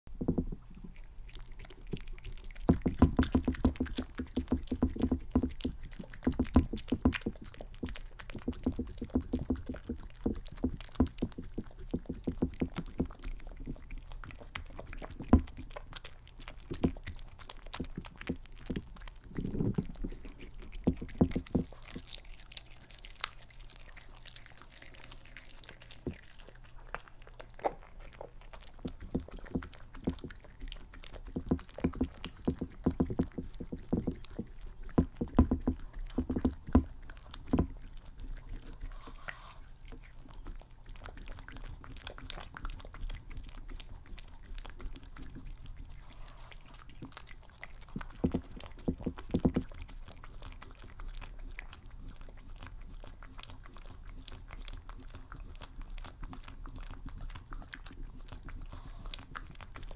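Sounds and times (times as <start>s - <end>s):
dog chewing and licking: 0.1s - 59.9s
dog crunching eggshells: 0.6s - 59.9s.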